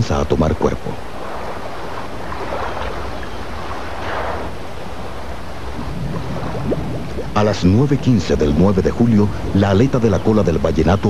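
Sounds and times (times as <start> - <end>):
rushing water: 0.0 - 11.0
steady low hum: 0.0 - 11.0
water lapping in pool: 0.6 - 10.1.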